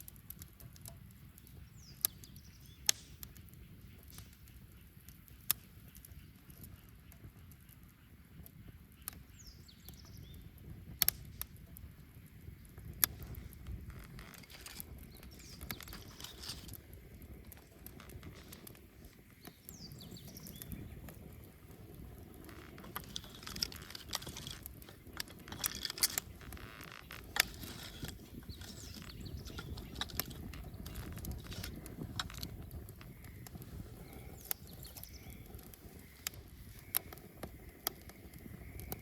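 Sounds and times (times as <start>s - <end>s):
bonfire crackling and popping: 0.0s - 39.0s
low fire rumble: 0.0s - 39.0s.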